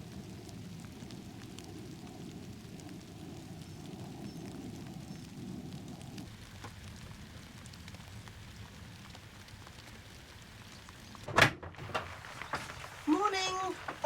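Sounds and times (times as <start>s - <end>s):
steady rain with drop ticks: 0.0s - 14.0s.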